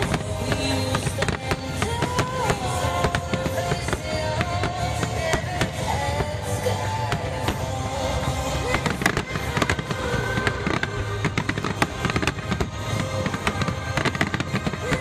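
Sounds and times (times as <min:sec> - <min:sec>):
fireworks bursting and crackling: 0:00.0 - 0:15.0
music: 0:00.0 - 0:15.0.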